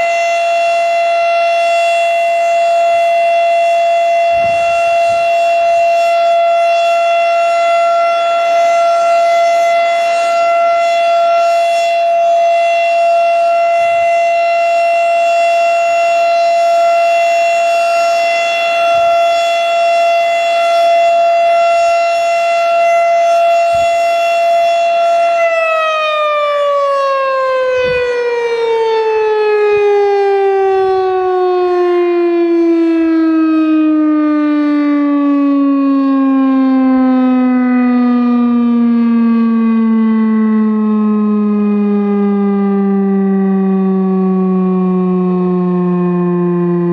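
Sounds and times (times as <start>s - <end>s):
warning siren steady tone: 0.0s - 46.9s.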